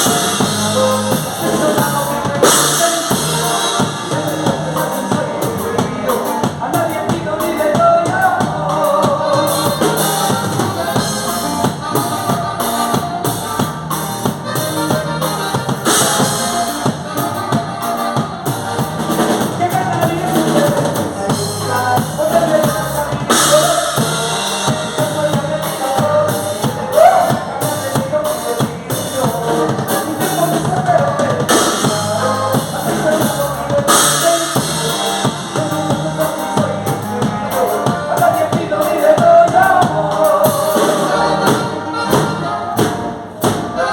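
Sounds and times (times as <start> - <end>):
drum kit beat: 0.0 - 43.9.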